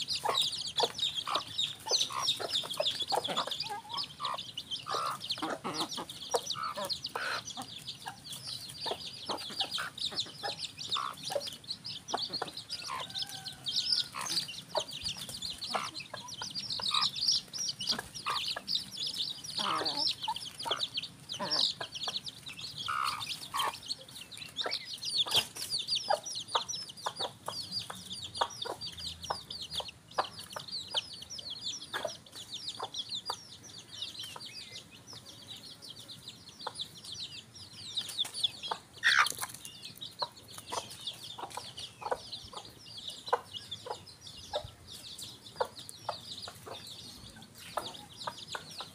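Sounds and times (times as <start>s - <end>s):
chicks peeping: 0.0s - 48.9s
hen clucking: 0.0s - 48.9s.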